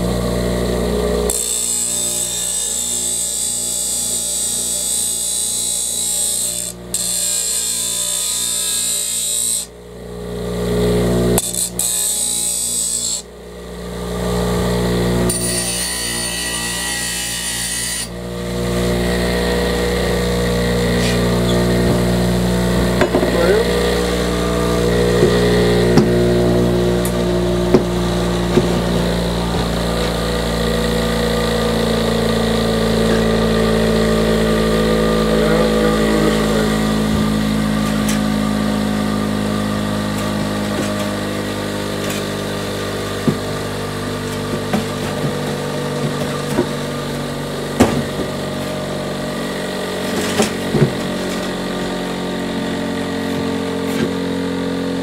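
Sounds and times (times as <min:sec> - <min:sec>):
bench grinder grinding metal: 0:00.0 - 0:55.0.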